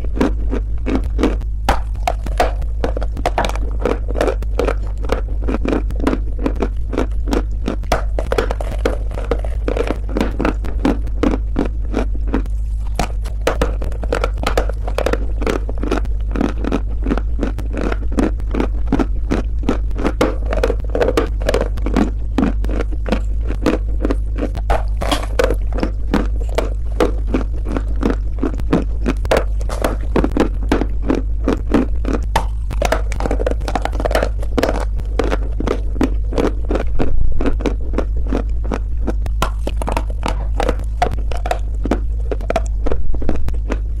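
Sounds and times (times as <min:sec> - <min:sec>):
clay chunks being chewed: 0:00.0 - 0:44.0
steady low hum: 0:00.0 - 0:44.0.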